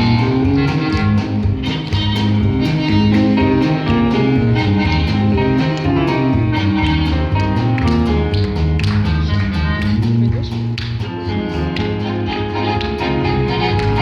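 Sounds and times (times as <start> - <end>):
instrumental ensemble music: 0.0 - 14.0.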